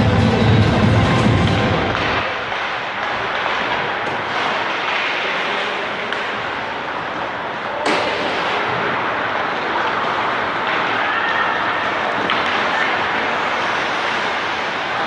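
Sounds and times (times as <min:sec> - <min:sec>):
arena noise: 0:00.0 - 0:15.0.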